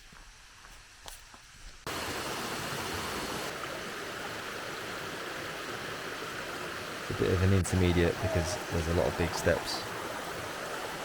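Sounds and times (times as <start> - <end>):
stream water rushing: 1.9 - 11.0.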